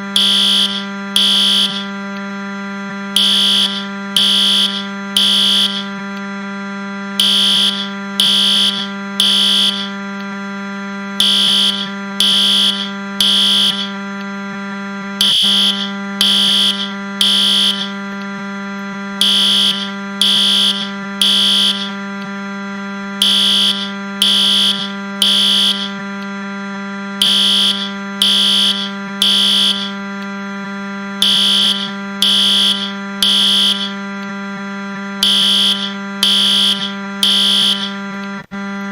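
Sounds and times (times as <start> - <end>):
fire alarm beeps: 0.0 - 38.9
low electronic buzz: 0.0 - 38.9.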